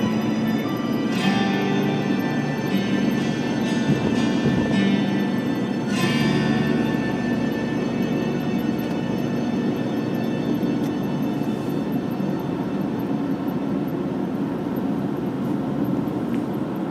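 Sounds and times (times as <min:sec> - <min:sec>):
car engine: 0:00.0 - 0:16.9
road rumble: 0:00.0 - 0:16.9.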